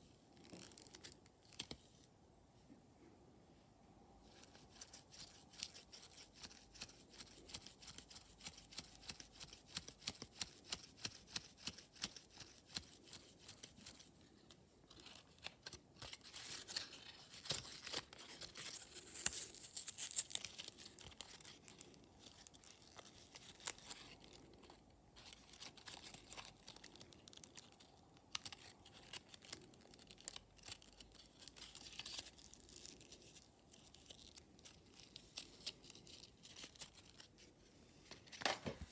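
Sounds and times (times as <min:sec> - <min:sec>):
paper crinkling and crackling: 0:00.0 - 0:02.1, 0:04.3 - 0:38.9.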